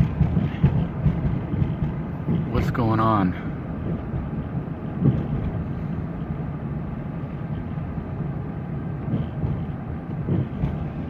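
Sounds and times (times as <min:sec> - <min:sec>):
vehicle driving drone: 0:00.0 - 0:11.0.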